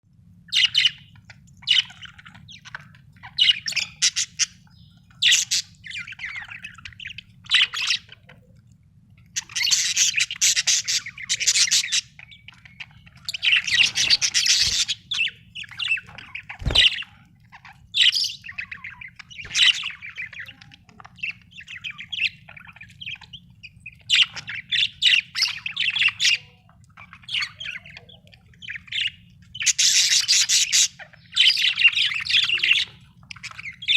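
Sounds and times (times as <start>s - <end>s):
budgerigars chattering and squawking: 0.4s - 8.5s, 9.2s - 33.9s.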